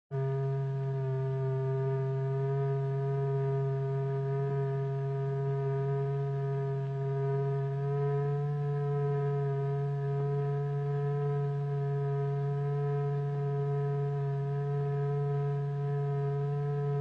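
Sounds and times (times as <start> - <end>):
steady electronic tone: 0.2 - 17.0.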